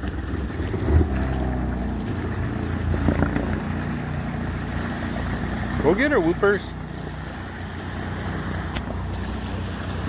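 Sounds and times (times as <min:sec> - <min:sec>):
jet ski engine revving: 0:00.0 - 0:10.0.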